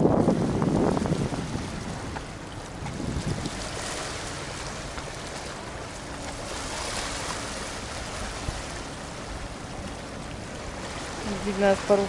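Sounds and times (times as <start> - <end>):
wind rumbling on microphone: 0.0 - 12.0
waves lapping against stones: 0.8 - 12.0.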